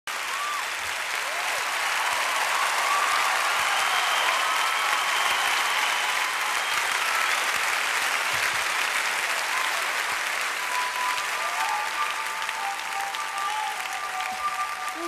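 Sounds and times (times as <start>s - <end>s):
audience applauding: 0.1s - 15.0s.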